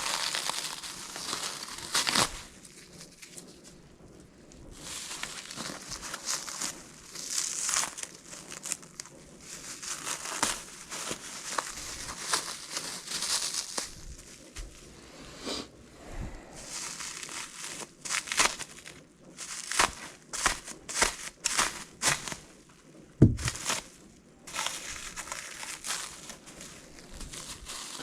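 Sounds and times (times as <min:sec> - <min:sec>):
plastic packaging crinkling and tearing: 0:00.0 - 0:03.8, 0:04.6 - 0:14.9, 0:16.6 - 0:22.6, 0:23.2 - 0:28.0.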